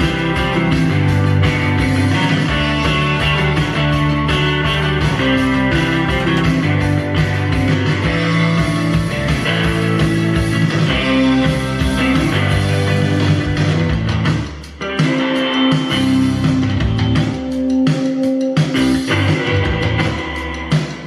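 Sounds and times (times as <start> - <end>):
guitar-led rock music: 0.0 - 21.0.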